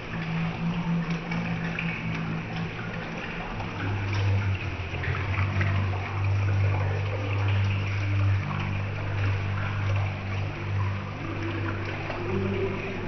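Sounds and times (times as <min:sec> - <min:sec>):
steady low hum: 0:00.0 - 0:13.0
water trickling down a waterfall: 0:00.0 - 0:13.0.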